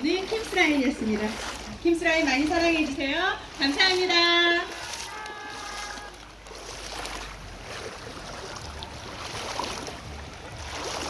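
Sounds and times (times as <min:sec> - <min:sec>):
small water splashes: 0:00.0 - 0:11.0
stream water flowing: 0:00.0 - 0:11.0.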